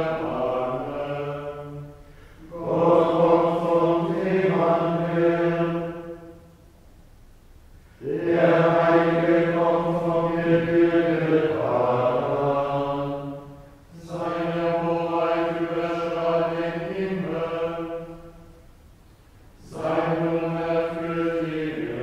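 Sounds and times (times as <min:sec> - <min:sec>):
voices chanting in unison: 0:00.0 - 0:06.5, 0:08.0 - 0:18.5, 0:19.6 - 0:22.0.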